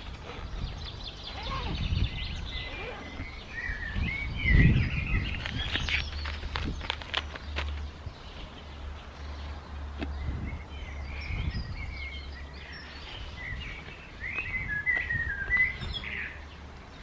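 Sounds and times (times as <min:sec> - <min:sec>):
songbird chirping and warbling: 0:00.0 - 0:17.0.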